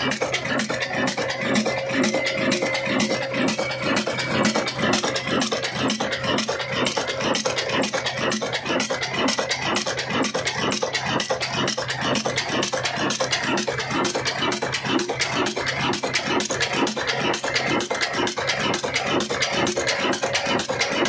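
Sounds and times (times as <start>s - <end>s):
diesel engine clattering: 0.0s - 21.0s.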